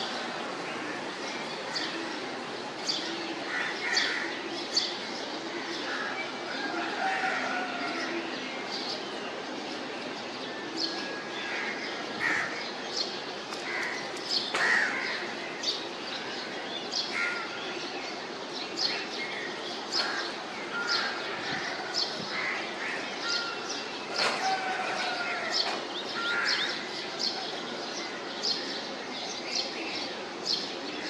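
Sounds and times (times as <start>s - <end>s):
birds chirping: 0.0s - 31.0s
steady background hiss: 0.0s - 31.0s.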